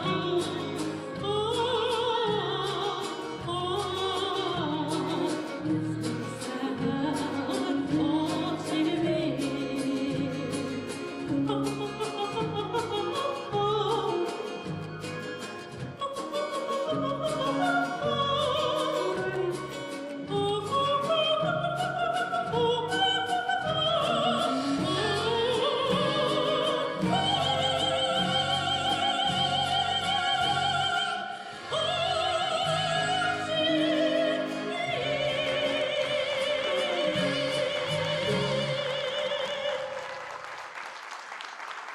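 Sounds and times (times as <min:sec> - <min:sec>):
folk song sung with vibrato: 0:00.0 - 0:40.4.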